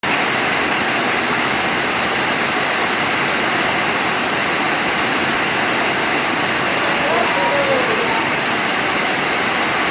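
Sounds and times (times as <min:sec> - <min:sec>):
rain falling: 0:00.3 - 0:09.9.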